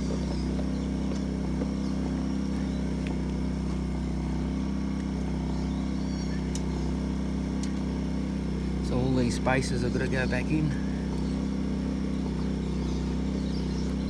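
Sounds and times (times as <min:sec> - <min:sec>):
portable generator running: 0:00.0 - 0:14.0.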